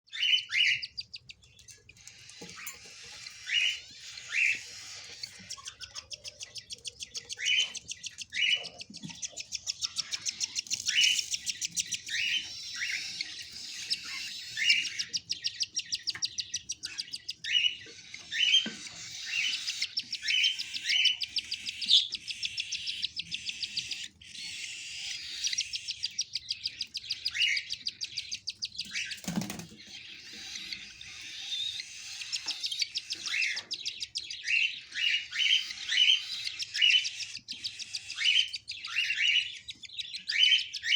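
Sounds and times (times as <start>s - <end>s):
cockatiel chick begging calls: 0.1s - 29.2s, 29.8s - 40.9s.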